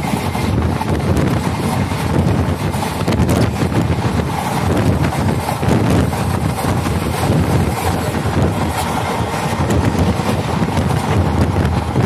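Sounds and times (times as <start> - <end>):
train running rumble: 0.0 - 12.0
wind buffeting microphone: 0.0 - 12.0.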